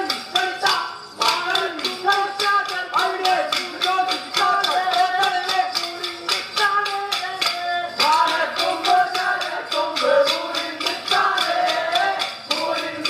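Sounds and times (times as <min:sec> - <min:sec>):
person singing: 0:00.0 - 0:13.0
wooden sticks clacking: 0:01.2 - 0:13.0.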